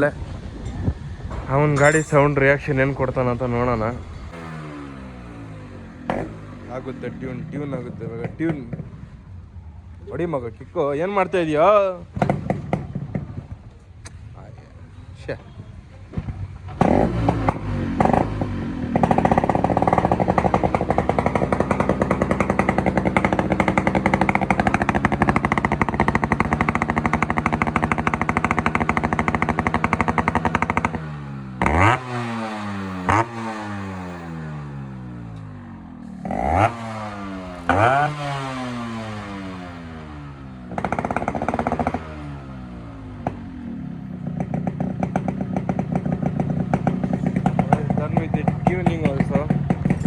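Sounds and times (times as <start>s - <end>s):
motorcycle engine idling and revving: 0.0s - 50.0s.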